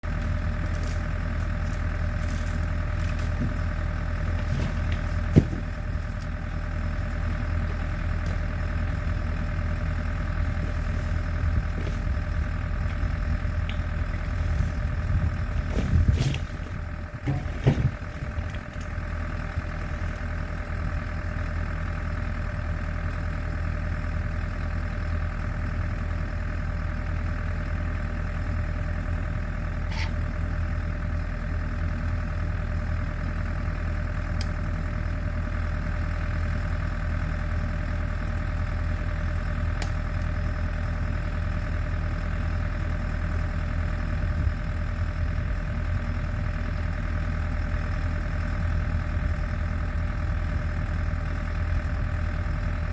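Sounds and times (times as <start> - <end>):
generator engine running: 0.0 - 52.9.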